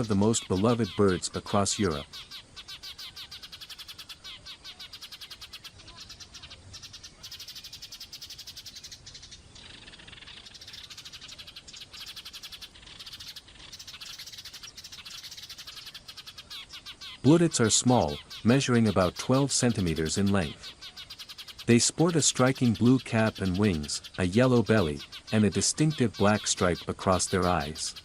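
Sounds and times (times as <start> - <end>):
small animal chirping rapidly: 0.0 - 28.0.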